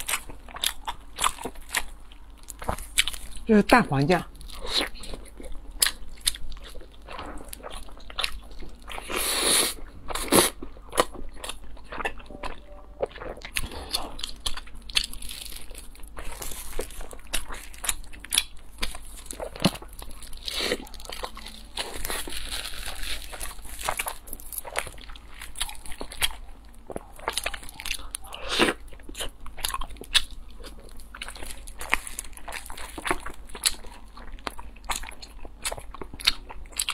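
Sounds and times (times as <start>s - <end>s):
crunchy fried food being chewed: 0.0s - 36.9s.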